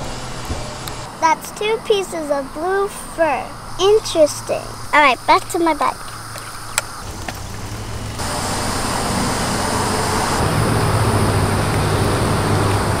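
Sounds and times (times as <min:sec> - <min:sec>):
outdoor rushing noise: 0:00.0 - 0:13.0.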